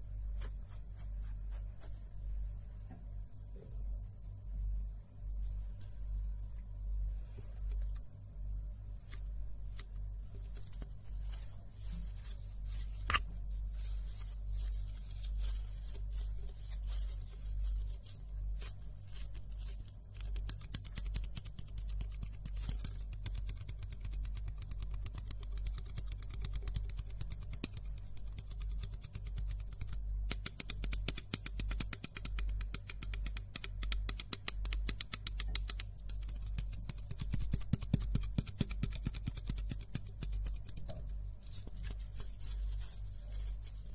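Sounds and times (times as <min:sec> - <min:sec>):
low steady hum: 0:00.0 - 0:43.9.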